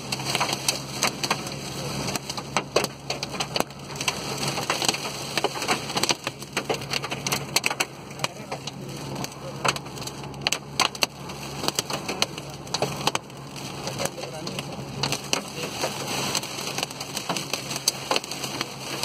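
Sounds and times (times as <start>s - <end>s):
engine and road hum: 0.0s - 19.0s
heavy rain on car roof: 0.0s - 19.0s.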